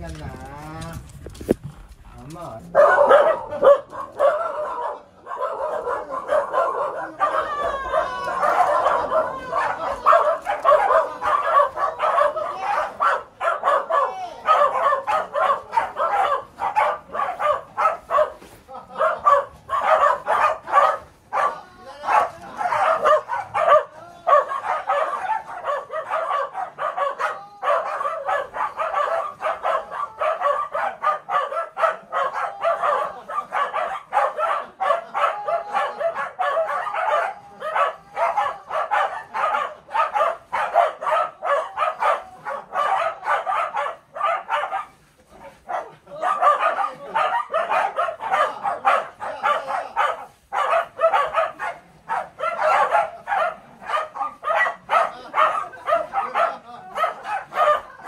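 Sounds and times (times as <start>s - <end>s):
dogs barking and yipping: 2.6s - 58.0s.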